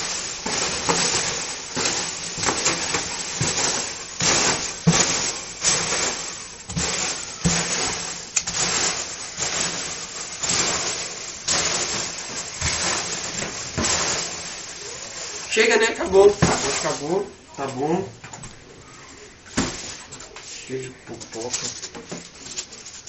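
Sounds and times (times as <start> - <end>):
packing peanuts rustling: 0.0 - 18.0, 18.8 - 23.0.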